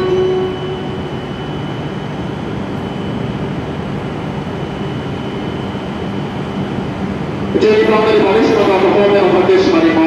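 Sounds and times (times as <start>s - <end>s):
thin high whine: 0.0s - 10.0s
train equipment whirring hum: 0.0s - 10.0s.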